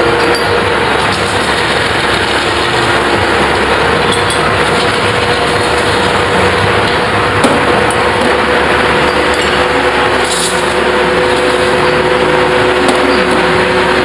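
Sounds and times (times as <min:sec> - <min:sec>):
metal spinning lathe running: 0:00.0 - 0:14.0.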